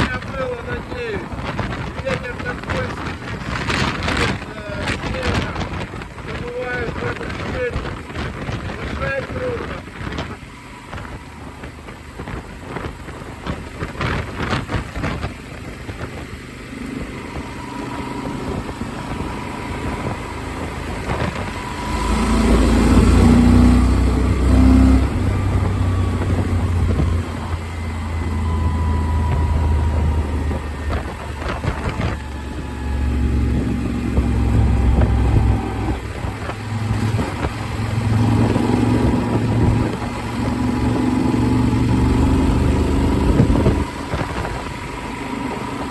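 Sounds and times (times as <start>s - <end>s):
motorcycle engine: 0.0s - 45.9s
wind rushing over microphone: 0.0s - 45.9s.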